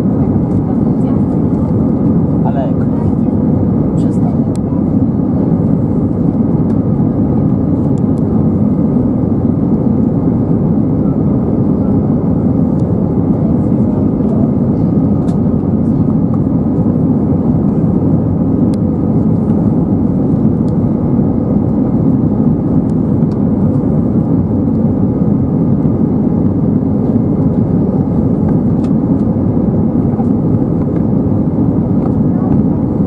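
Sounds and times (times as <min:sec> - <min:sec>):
airplane cabin engine rush: 0:00.0 - 0:33.0.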